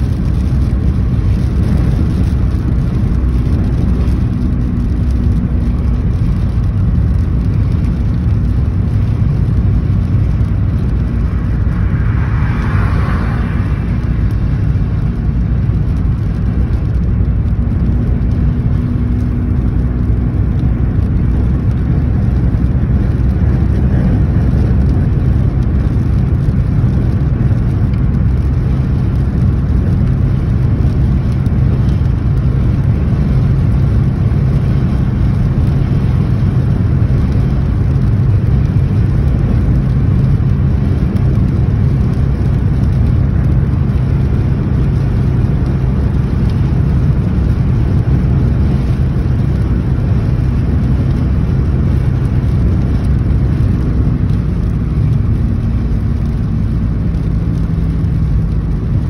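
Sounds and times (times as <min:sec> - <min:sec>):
tyre and engine rumble: 0:00.0 - 0:59.0.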